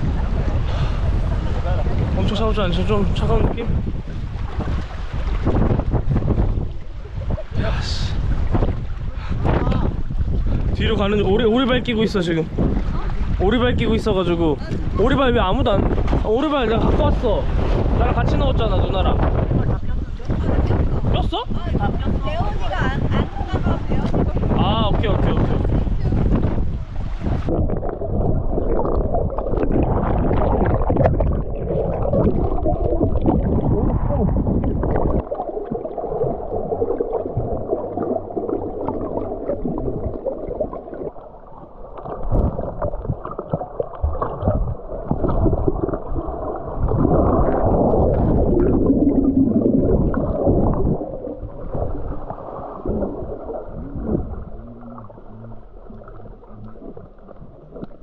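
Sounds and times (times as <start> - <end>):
underwater water sloshing: 0.0 - 58.0.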